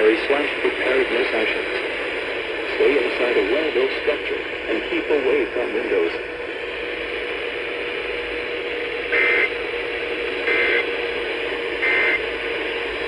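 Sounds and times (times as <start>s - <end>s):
faint steady hum: 0.0s - 13.0s
radio channel hiss: 0.0s - 13.0s.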